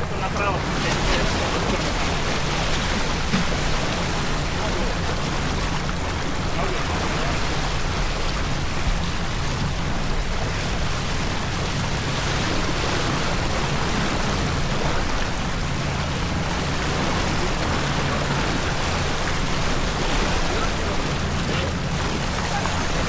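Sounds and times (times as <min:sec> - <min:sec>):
water rushing around boat: 0:00.0 - 0:23.0.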